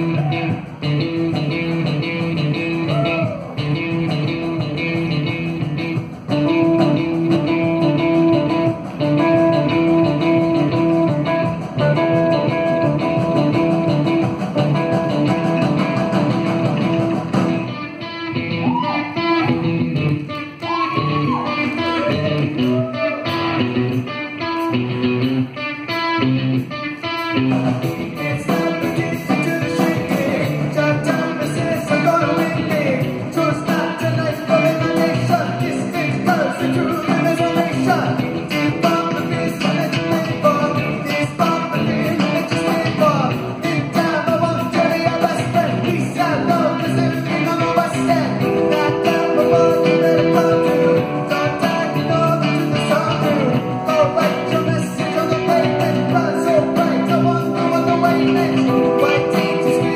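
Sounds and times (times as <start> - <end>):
electric guitar: 0.0 - 59.9
live rock band playing: 0.0 - 59.9
sliding guitar notes: 0.0 - 59.9.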